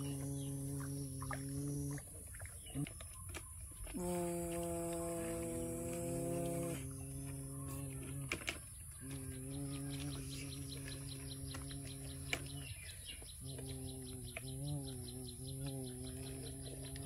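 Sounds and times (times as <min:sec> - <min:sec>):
person humming engine drone: 0:00.0 - 0:02.1, 0:03.9 - 0:17.0
insect chirping: 0:00.0 - 0:17.0.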